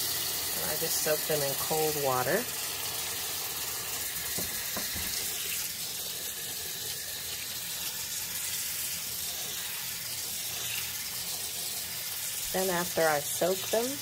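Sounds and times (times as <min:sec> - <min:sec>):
tap water running into bowl: 0:00.0 - 0:14.0.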